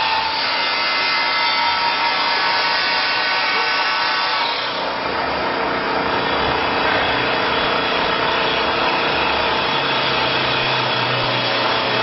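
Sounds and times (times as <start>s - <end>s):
lathe cutter shaving wood: 0.0s - 12.0s.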